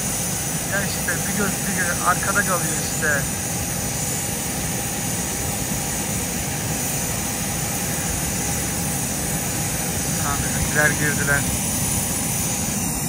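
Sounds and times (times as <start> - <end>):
airliner engines roaring: 0.0 - 13.0
thin high whine: 0.0 - 13.0.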